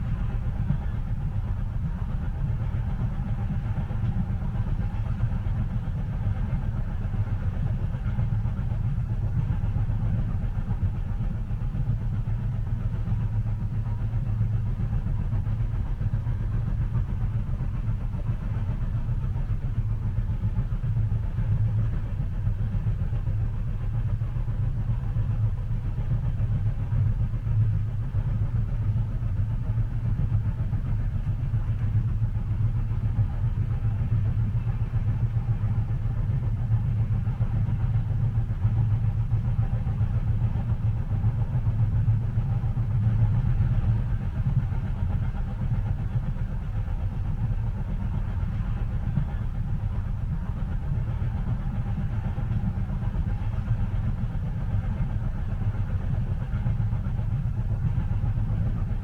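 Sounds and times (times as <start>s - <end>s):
train rumble inside cabin: 0.0s - 59.0s.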